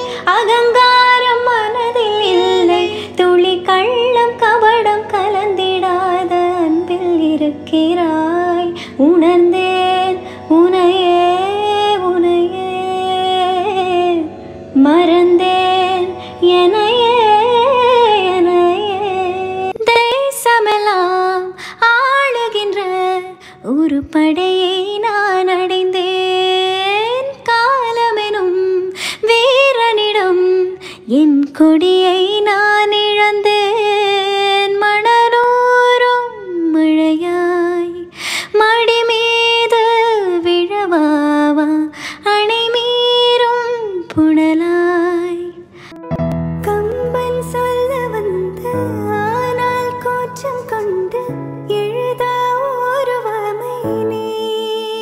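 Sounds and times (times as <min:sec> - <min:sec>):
woman singing ornamented phrases: 0:00.0 - 0:45.7, 0:46.6 - 0:55.0.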